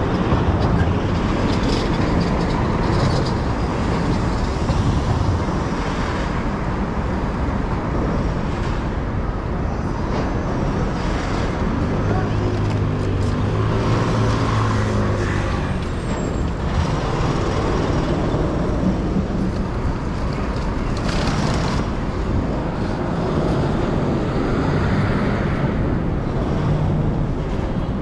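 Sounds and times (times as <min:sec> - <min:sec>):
traffic engines humming: 0:00.0 - 0:28.0.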